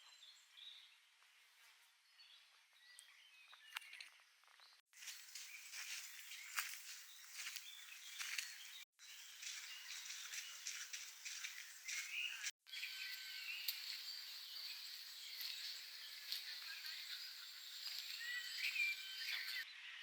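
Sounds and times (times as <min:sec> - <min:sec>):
faint outdoor ambience: 0:00.0 - 0:19.8
birds chirping: 0:02.0 - 0:20.0.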